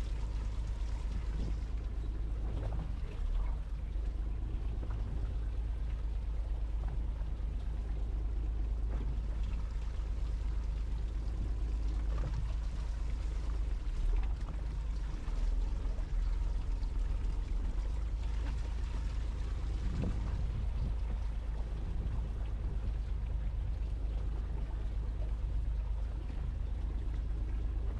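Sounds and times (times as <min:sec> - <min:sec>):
heavy rain on a boat: 0:00.0 - 0:27.9
low rumble: 0:00.0 - 0:27.9.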